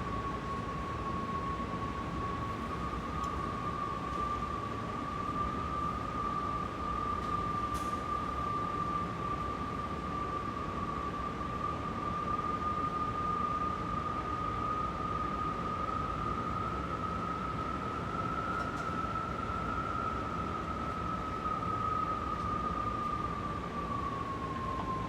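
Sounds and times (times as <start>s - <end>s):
howling whistle: 0.0s - 25.0s.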